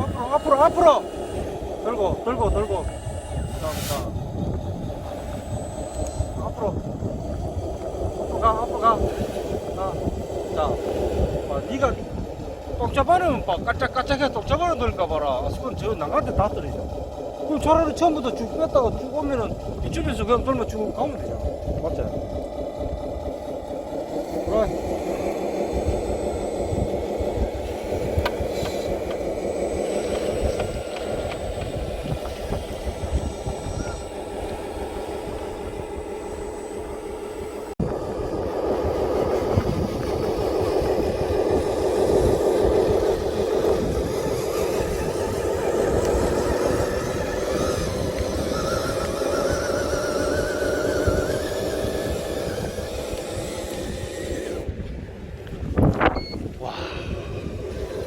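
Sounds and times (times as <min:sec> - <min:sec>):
model truck motor whine: 0:00.0 - 0:58.0.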